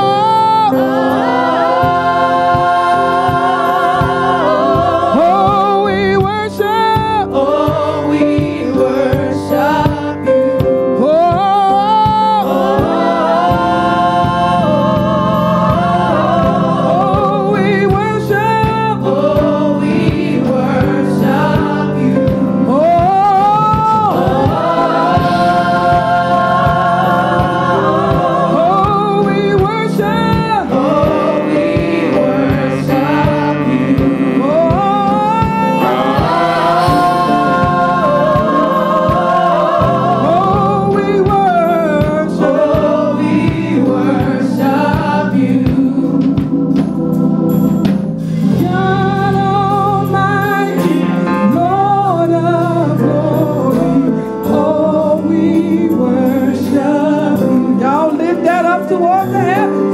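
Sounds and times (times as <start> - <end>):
gospel group singing in harmony: 0.0 - 59.9
lead voice singing with vibrato: 0.0 - 59.9
organ accompaniment: 0.0 - 59.9.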